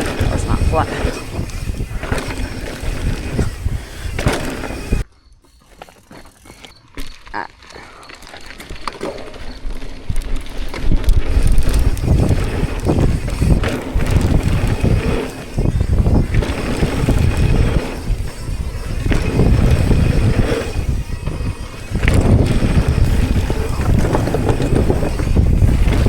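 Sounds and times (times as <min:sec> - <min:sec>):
wind buffeting microphone: 0:00.0 - 0:05.1, 0:09.8 - 0:26.0
bike tyres rumbling over dirt: 0:00.0 - 0:26.0.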